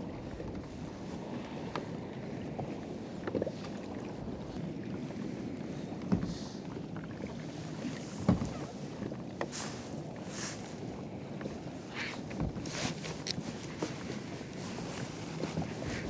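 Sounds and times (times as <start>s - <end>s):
water sloshing against hull: 0.0s - 16.0s.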